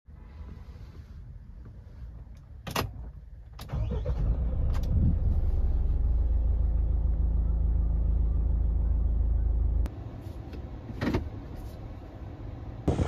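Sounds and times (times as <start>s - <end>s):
car engine starting and idling: 0.2s - 13.0s.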